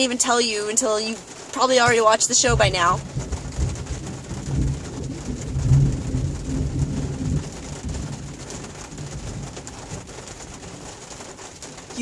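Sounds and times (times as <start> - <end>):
low rumble of thunder: 1.6 - 12.0.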